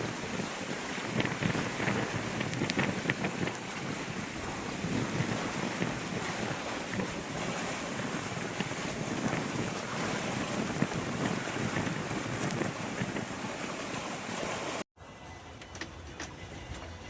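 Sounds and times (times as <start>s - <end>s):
wind buffeting microphone: 0.0s - 14.8s
water splashing along hull: 0.0s - 14.9s.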